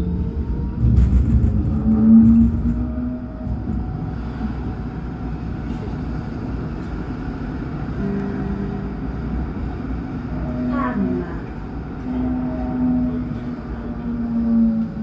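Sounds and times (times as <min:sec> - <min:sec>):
tram rolling rumble: 0:00.0 - 0:15.0.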